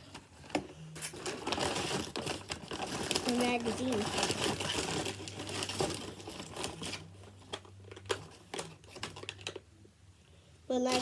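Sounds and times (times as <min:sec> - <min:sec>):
plastic rustling and crinkling: 0:00.0 - 0:09.7, 0:10.7 - 0:11.0.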